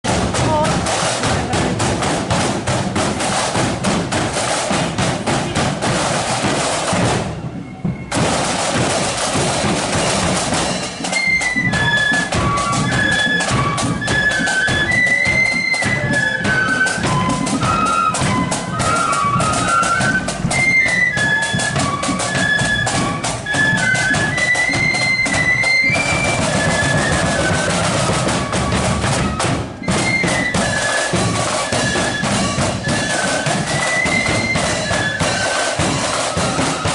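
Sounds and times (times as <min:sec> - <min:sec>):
marching drums beat: 0:00.0 - 0:36.9
flutes playing a tune: 0:00.1 - 0:36.9.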